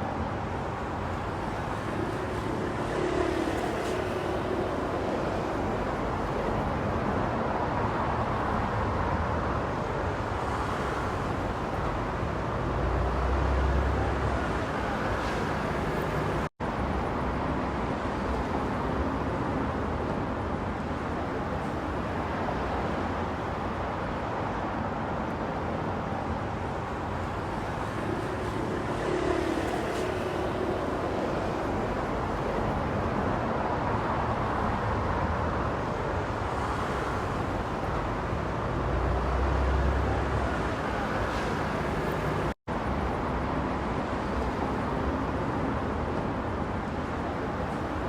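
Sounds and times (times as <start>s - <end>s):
car tyre and engine noise: 0.0s - 48.0s.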